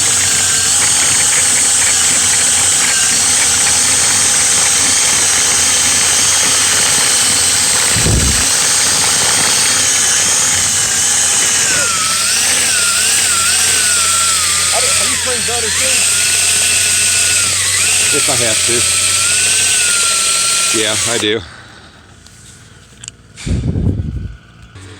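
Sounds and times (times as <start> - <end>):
duct cleaning machine running: 0.0 - 22.1.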